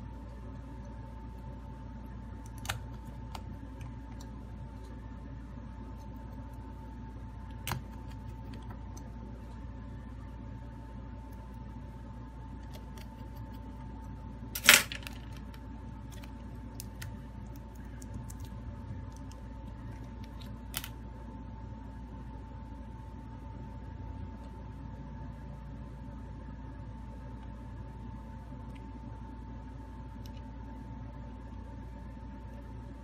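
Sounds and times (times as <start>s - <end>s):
steady hum with high whine: 0.0s - 33.0s.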